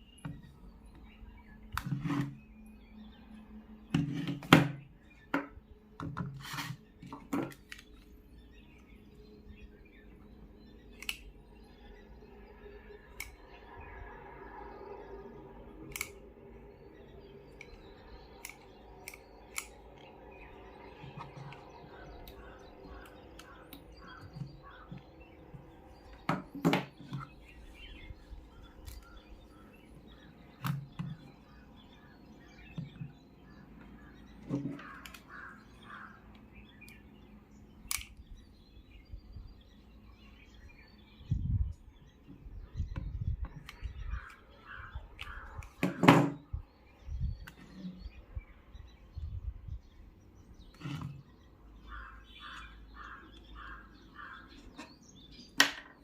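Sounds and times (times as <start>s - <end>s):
birds chirping faintly: 0.0s - 56.0s.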